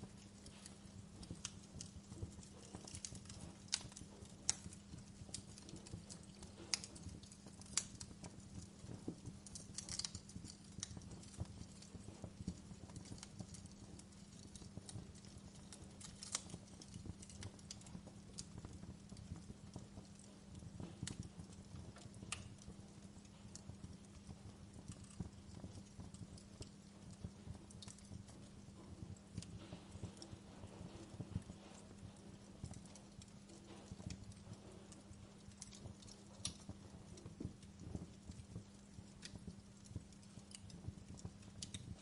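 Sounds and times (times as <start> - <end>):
fire crackling and popping: 0.0 - 42.0.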